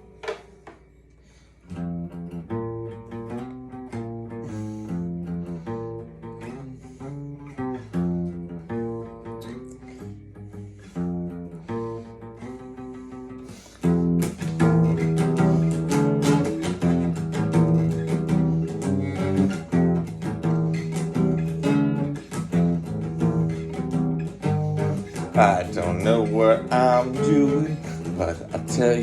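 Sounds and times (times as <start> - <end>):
instrumental guitar music: 0.0 - 29.0.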